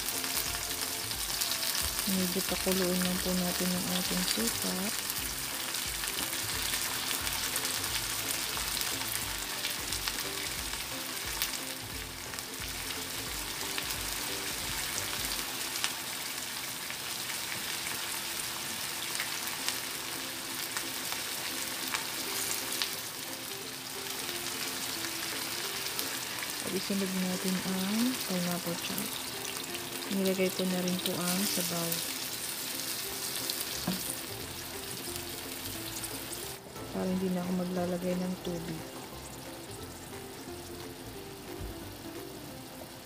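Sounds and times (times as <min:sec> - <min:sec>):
vegetables sizzling in frying pan: 0:00.0 - 0:43.0.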